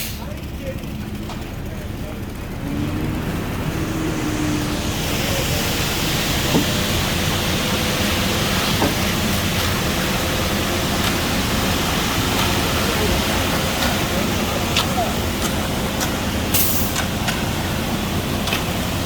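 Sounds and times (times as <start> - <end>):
concrete truck running: 0.0 - 19.0.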